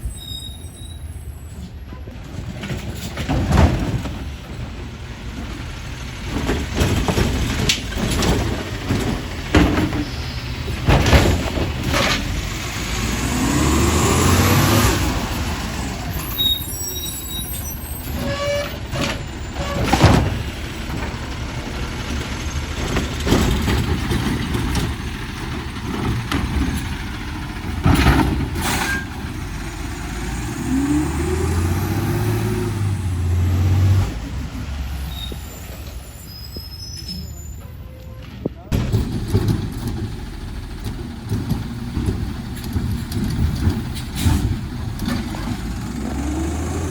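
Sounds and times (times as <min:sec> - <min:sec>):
diesel truck engine revving: 0:03.7 - 0:36.5, 0:38.7 - 0:46.9.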